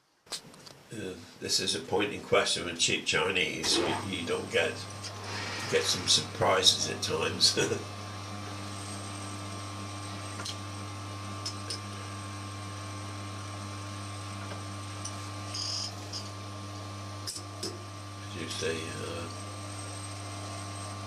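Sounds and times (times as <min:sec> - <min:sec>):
metal lathe motor hum: 0:03.6 - 0:21.0.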